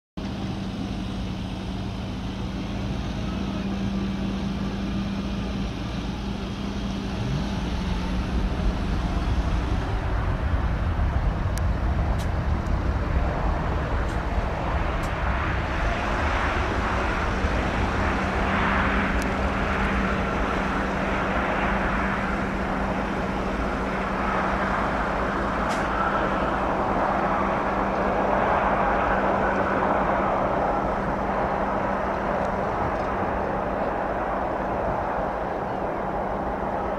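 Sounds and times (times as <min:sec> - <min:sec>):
jet engine roar: 0:00.2 - 0:36.9
low hum: 0:00.2 - 0:36.9.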